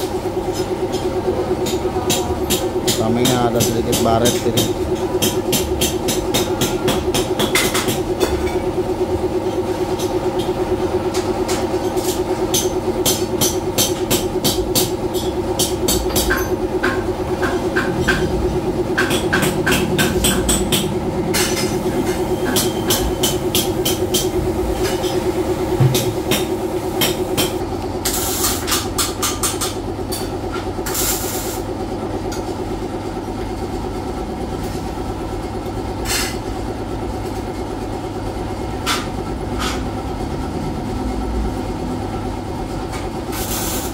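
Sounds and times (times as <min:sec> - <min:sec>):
workshop machine humming: 0:00.0 - 0:43.9.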